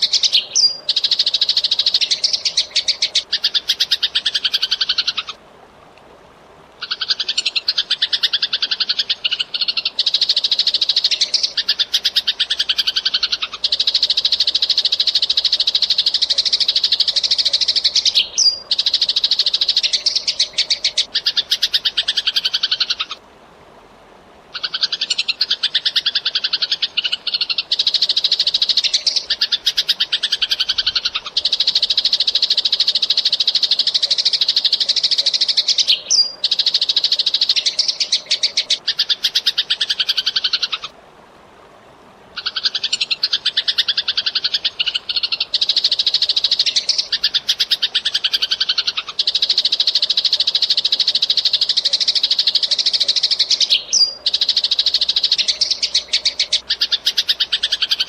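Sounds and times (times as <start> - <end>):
sparrow chattering: 0.0 - 5.4, 6.8 - 23.2, 24.6 - 40.9, 42.4 - 58.0.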